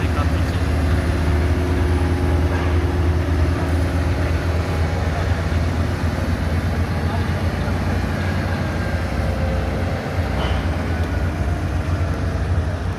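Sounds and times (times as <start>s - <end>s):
truck engine droning: 0.0s - 12.9s.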